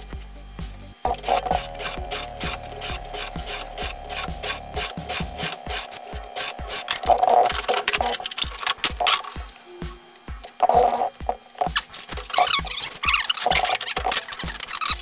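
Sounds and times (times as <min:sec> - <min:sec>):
background music: 0:00.0 - 0:15.0
scriber scratching metal sheet: 0:01.1 - 0:09.6, 0:10.6 - 0:15.0.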